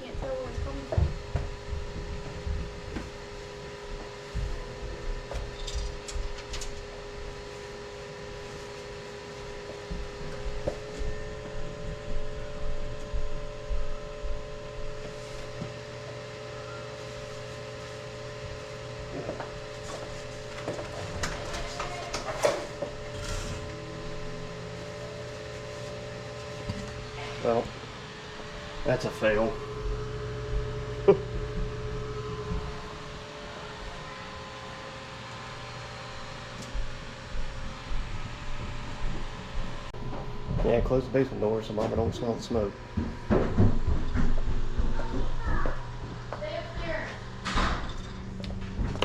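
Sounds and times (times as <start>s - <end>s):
blower fans humming: 0.0s - 49.0s.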